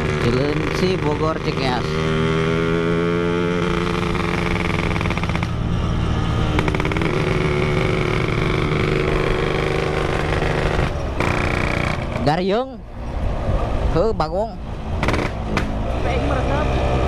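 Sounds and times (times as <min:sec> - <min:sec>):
two-stroke motorcycle engine: 0:00.0 - 0:12.6, 0:15.0 - 0:17.0.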